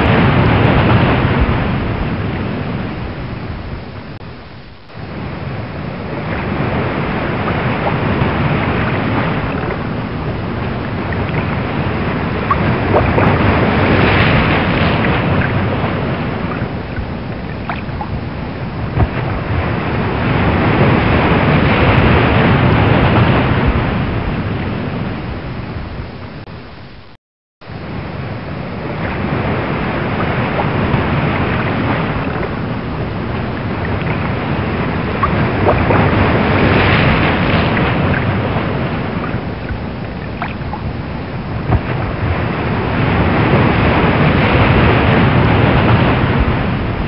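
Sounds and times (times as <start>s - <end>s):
waves surging and breaking: 0.0s - 47.0s
wind over water: 0.0s - 47.0s.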